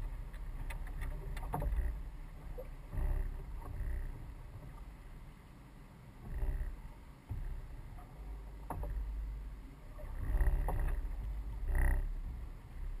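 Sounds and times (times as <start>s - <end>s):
oars knocking in oarlocks: 0.0s - 5.3s, 6.2s - 13.0s
low rumble: 0.0s - 13.0s
oars pulling through water: 0.0s - 13.0s.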